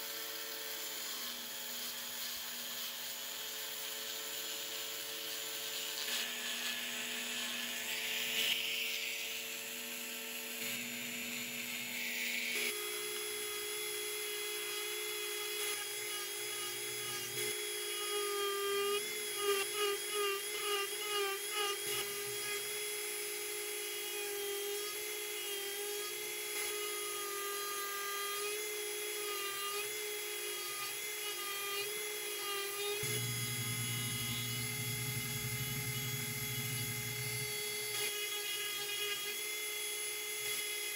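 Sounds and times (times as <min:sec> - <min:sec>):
rotary tool high whine: 0:00.0 - 0:40.9.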